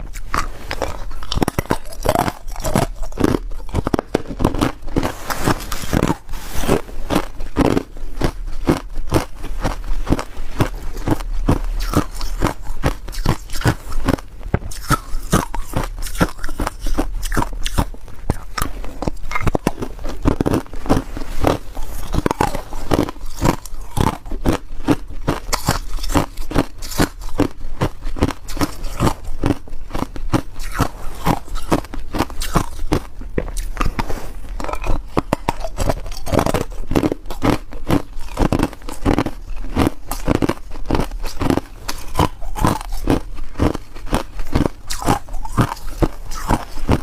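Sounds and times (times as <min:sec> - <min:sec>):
ice being chewed: 0:00.0 - 0:47.0.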